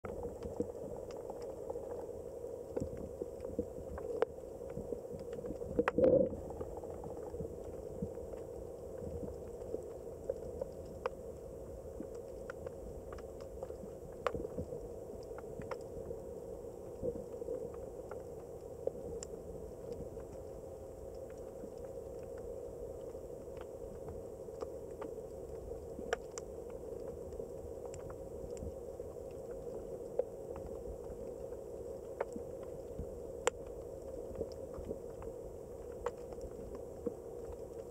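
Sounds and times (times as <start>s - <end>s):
low underwater rumble: 0.0s - 37.9s.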